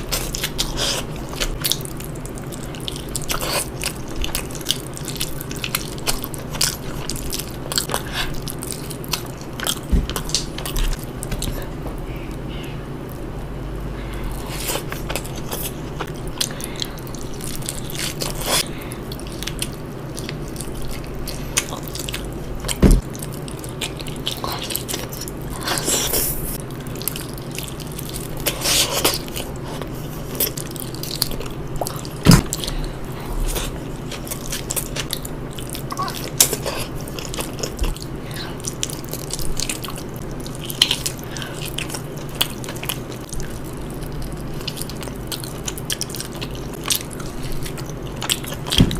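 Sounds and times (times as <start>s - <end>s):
wet chewing and smacking: 0.0s - 13.3s, 13.9s - 48.9s
low hum: 0.0s - 48.9s.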